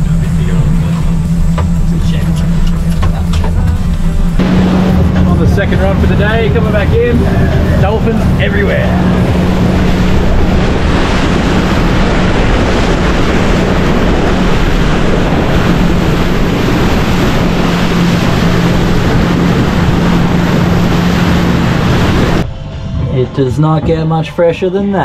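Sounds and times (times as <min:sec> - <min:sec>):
water rushing along hull: 0:00.0 - 0:22.5
motorboat engine drone: 0:00.0 - 0:23.2
wind buffeting microphone: 0:00.0 - 0:23.2.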